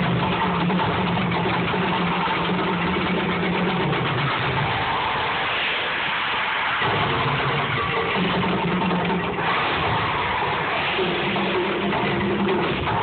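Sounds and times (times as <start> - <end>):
gas flame jets roaring: 0.0 - 13.0.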